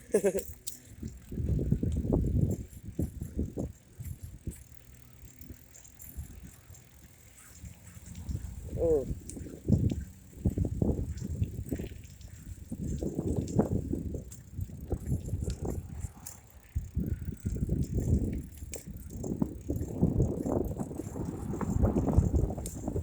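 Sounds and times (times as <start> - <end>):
bicycle clicks and rattles: 0.0 - 23.0
bicycle rumbling: 0.0 - 23.0.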